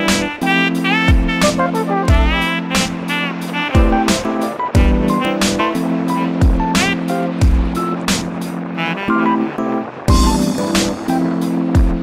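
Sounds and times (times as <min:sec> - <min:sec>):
deep bass beat: 0:00.0 - 0:08.7, 0:10.1 - 0:12.0.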